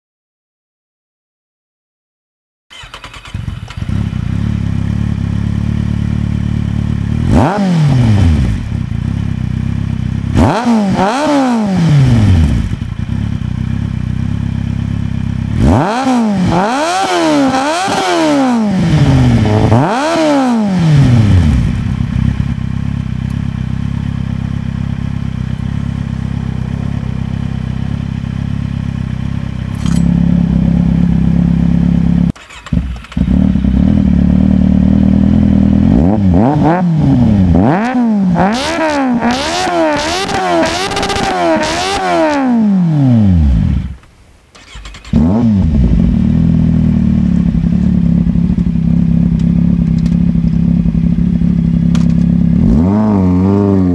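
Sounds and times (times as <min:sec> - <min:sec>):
motorcycle engine idling and revving: 0:02.7 - 0:53.9.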